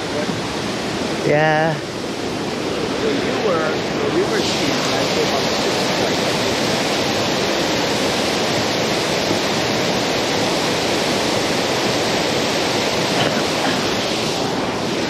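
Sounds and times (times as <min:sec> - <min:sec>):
water rushing over a spillway: 0:00.0 - 0:15.0.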